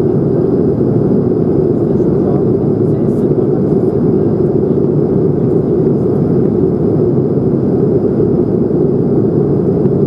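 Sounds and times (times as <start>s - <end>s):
airplane cabin airflow and engines: 0.0s - 10.0s
faint high whine: 0.0s - 10.0s.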